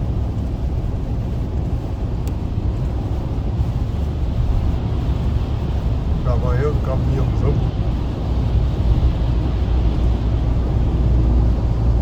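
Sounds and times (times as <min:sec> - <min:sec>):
car engine low rumble: 0:00.0 - 0:12.0
road noise: 0:00.0 - 0:12.0.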